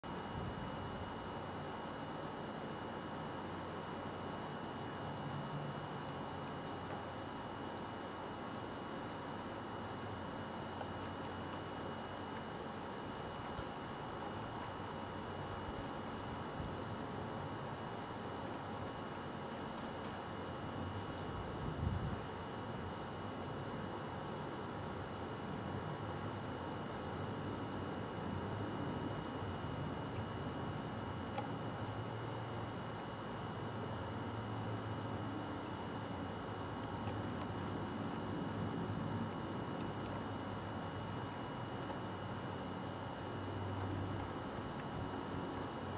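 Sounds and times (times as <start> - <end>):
insects chirping: 0.1 - 45.9.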